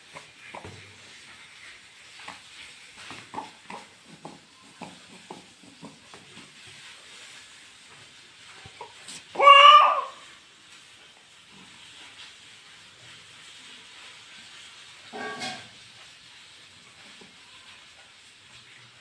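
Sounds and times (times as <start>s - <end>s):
low steady hiss: 0.0s - 19.0s.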